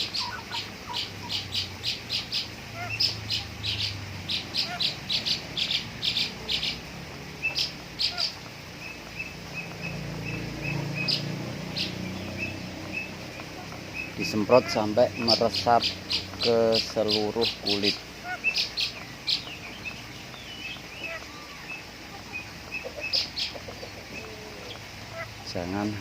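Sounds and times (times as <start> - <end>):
thin bird peeps: 0.0 - 25.5
bird chirping: 0.0 - 26.0.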